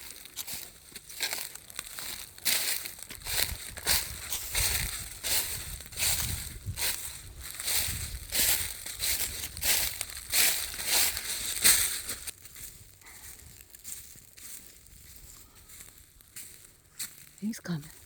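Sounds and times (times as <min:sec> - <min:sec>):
footsteps crunching on trail: 0:00.0 - 0:18.0.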